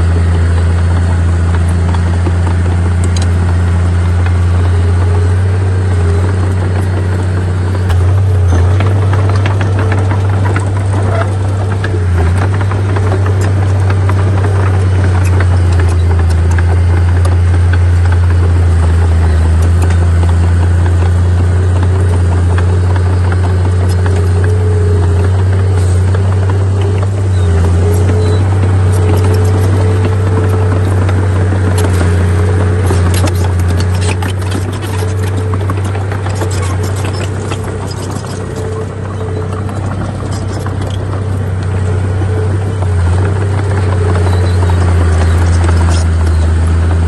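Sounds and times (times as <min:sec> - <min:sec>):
heavy diesel engine drone: 0:00.0 - 0:47.0.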